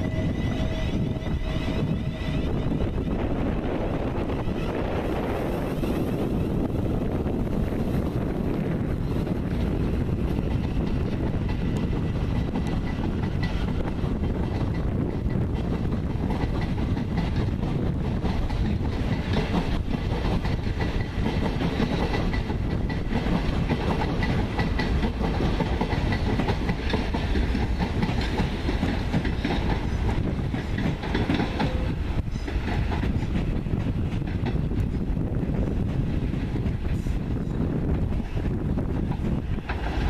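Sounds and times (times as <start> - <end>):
second electric train arriving: 0.0 - 40.0
train wheels rumbling on rails: 0.0 - 40.0.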